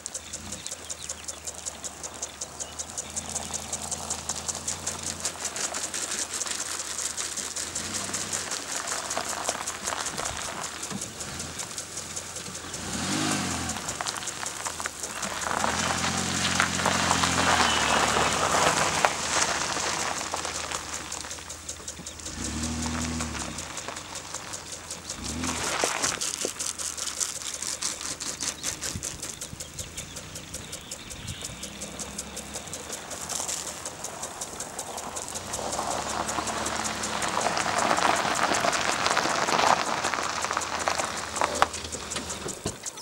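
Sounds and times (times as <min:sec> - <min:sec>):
sprinkler water spraying: 0:00.0 - 0:43.0
van engine revving: 0:00.0 - 0:43.0.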